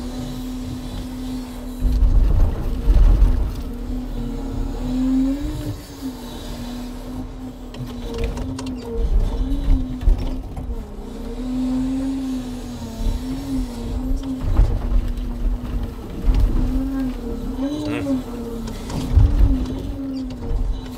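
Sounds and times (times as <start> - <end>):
diesel truck engine running: 0.0 - 20.9.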